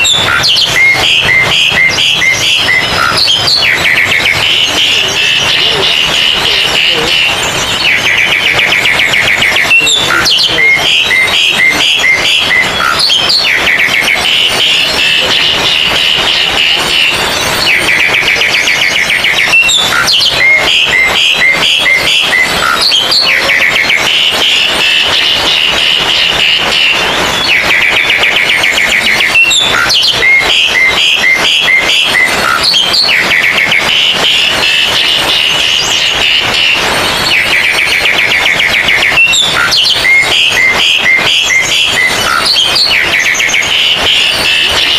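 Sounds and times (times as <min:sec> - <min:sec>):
repeated clear bird notes: 0:00.0 - 0:44.9
songbirds whistling and trilling: 0:00.0 - 0:44.9.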